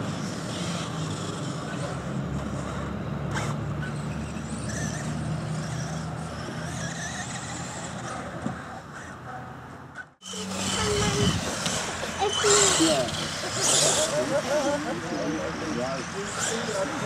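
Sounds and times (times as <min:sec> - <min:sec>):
model car motors whining: 0:00.0 - 0:17.0.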